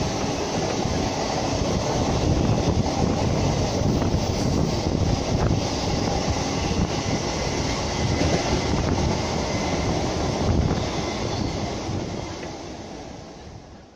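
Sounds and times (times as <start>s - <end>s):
train wheels rumbling on rails: 0.0s - 13.9s.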